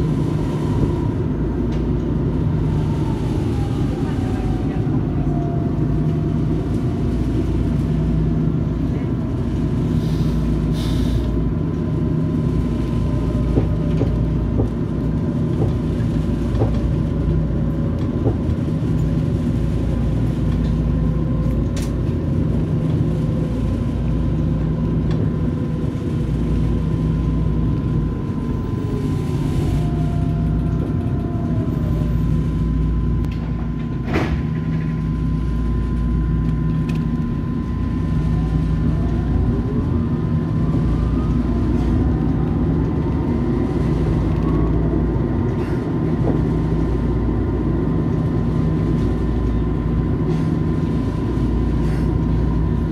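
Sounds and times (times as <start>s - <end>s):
tram rumbling on rails: 0.0s - 52.9s.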